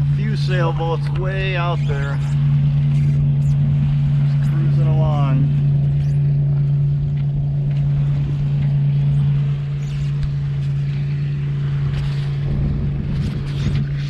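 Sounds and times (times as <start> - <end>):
loud steady low hum: 0.0 - 14.0
water washing along hull: 0.0 - 14.0.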